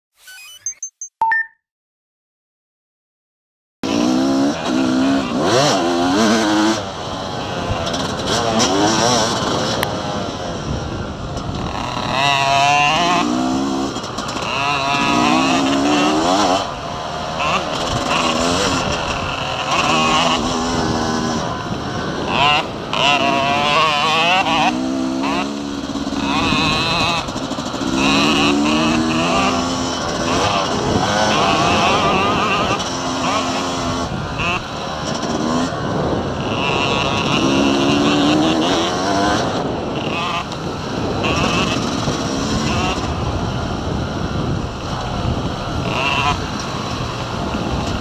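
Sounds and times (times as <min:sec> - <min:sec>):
dirt bike engine revving: 0:03.8 - 0:48.0.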